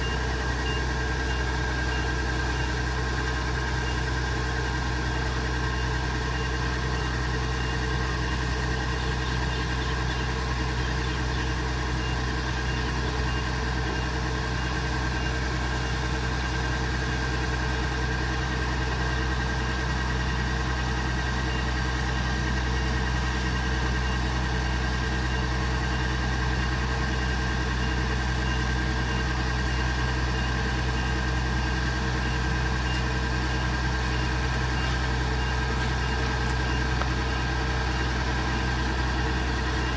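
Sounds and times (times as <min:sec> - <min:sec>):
combine harvester engine droning: 0:00.0 - 0:39.9
constant high whine: 0:00.0 - 0:39.9.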